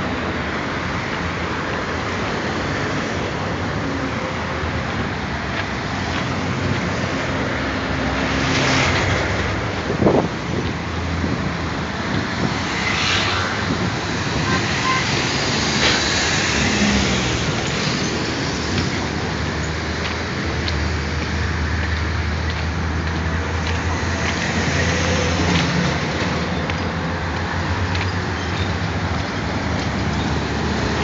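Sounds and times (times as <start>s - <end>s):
cars and buses passing: 0.0s - 31.0s.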